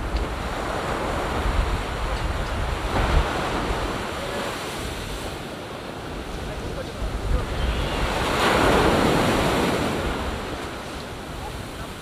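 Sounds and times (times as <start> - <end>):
waves washing up a sandy beach: 0.0 - 12.0
wind rumble on microphone: 0.0 - 12.0.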